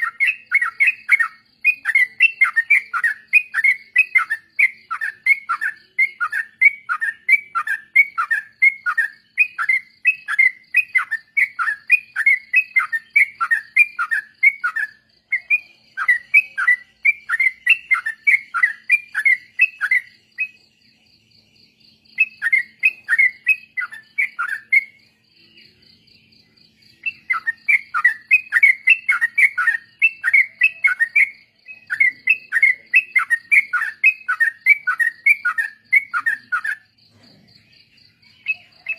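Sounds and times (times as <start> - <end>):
bulbuls singing falling notes: 0.0 - 38.9.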